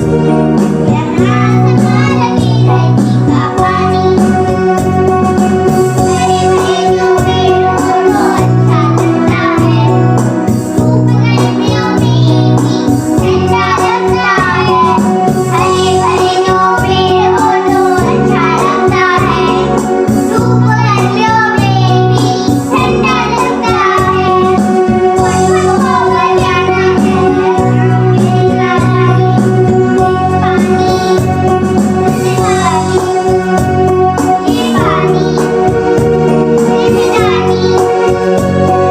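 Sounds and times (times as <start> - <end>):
children singing: 0.0 - 38.9
instrumental backing music: 0.0 - 38.9.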